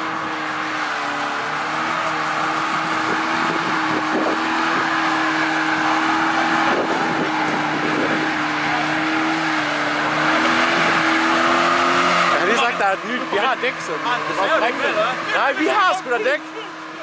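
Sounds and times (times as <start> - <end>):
car engine revving high: 0.0 - 17.0
tyres spinning on asphalt: 0.0 - 17.0.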